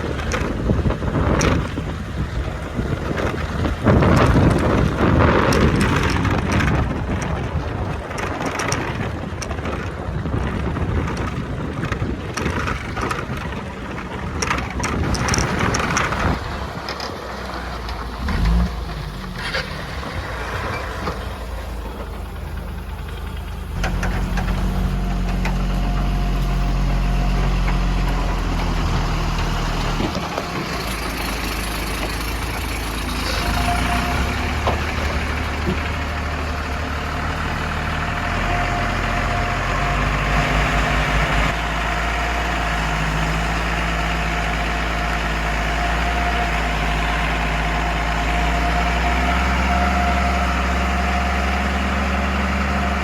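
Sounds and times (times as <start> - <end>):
heavy diesel engines running: 0.0 - 53.0.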